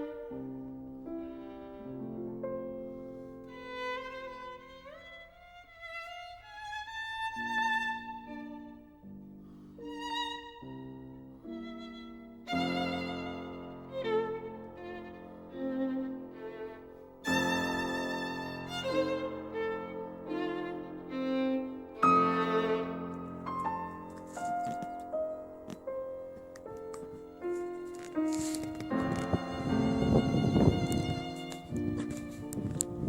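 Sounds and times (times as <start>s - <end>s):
violin playing slow melody: 0.0s - 33.0s.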